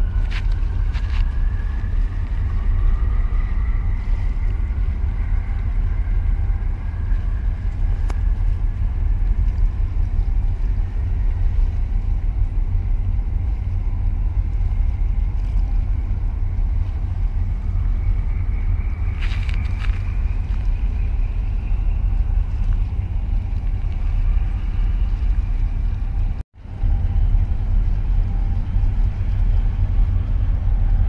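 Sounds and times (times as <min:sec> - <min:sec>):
ship engine rumble: 0:00.0 - 0:31.0
wind buffeting microphone: 0:00.0 - 0:31.0.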